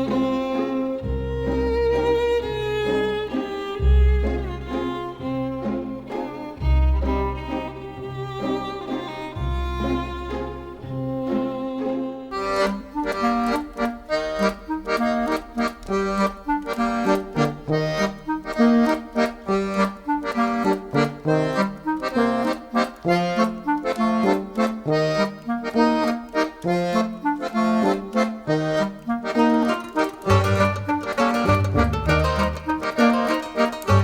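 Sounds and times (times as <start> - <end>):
accordion music: 0.0 - 34.0.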